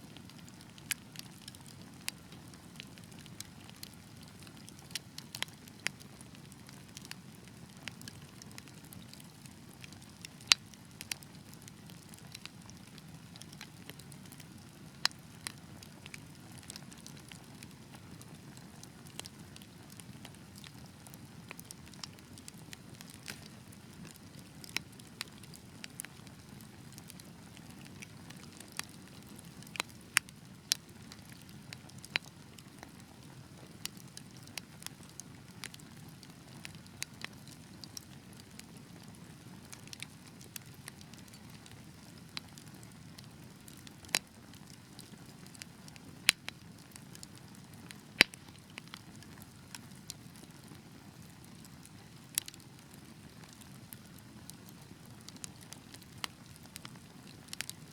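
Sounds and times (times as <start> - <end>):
logs crackling and popping: 0.1 - 57.9.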